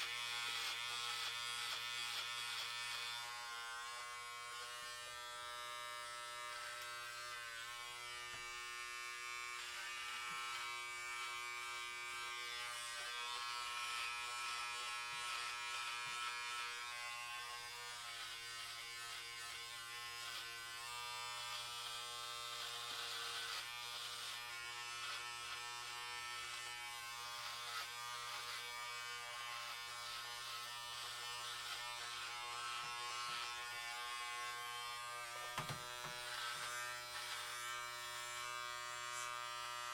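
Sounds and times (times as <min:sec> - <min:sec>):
electric hair clippers buzzing: 0:00.0 - 0:39.9
hissing hair cutting noise: 0:00.0 - 0:39.9.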